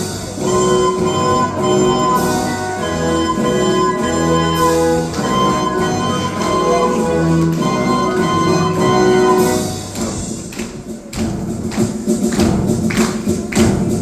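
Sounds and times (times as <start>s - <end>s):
drum playing a march: 0.0s - 14.0s
orchestral accompaniment: 0.0s - 14.0s.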